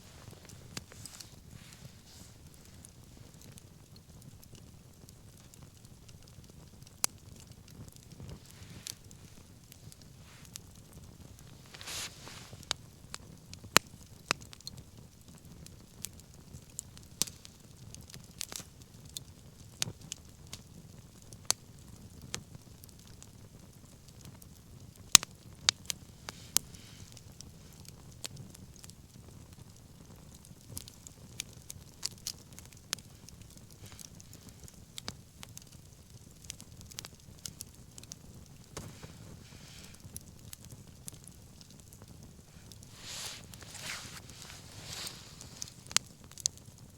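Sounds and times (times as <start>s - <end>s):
bonfire crackling and popping: 0.0s - 46.9s.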